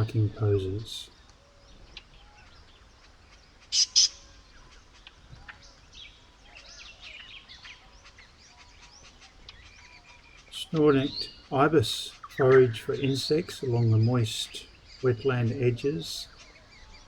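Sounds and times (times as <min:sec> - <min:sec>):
loud sharp bird calls: 0:00.0 - 0:17.0
small birds chirping: 0:00.0 - 0:17.0.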